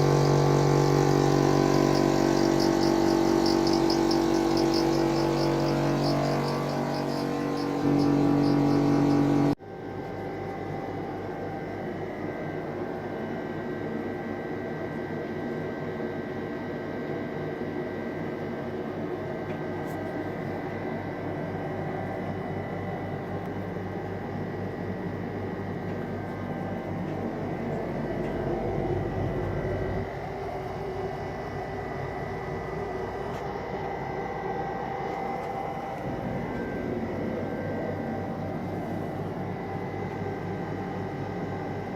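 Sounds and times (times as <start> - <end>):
compressor loud pitched hum: 0.0 - 16.5, 18.1 - 41.9
cooling system whir: 0.0 - 41.9.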